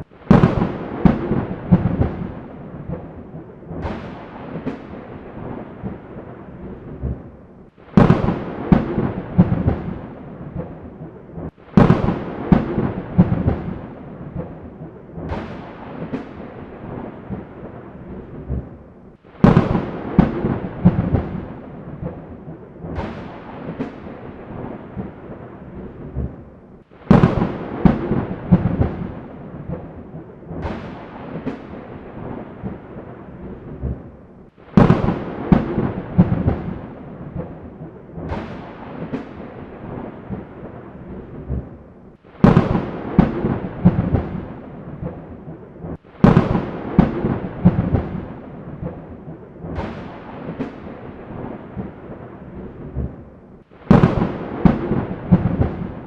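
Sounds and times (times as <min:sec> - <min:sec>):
steady rain: 0:00.0 - 0:56.0
thunder cracking and rumbling: 0:00.0 - 0:56.0.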